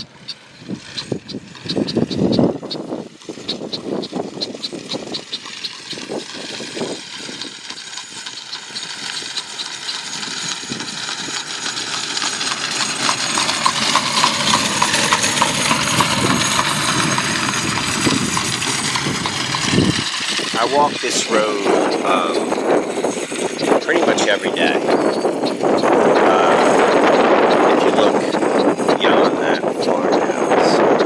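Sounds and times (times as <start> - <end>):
buggy road noise: 0.0 - 31.0
horse hooves clip-clopping: 3.2 - 29.9.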